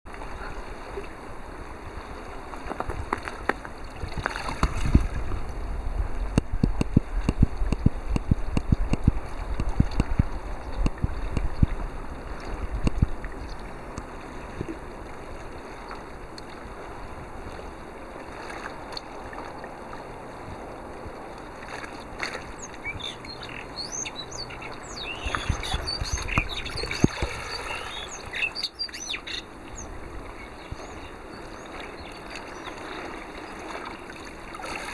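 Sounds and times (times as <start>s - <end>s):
seawater sloshing and splashing: 0.1s - 34.9s.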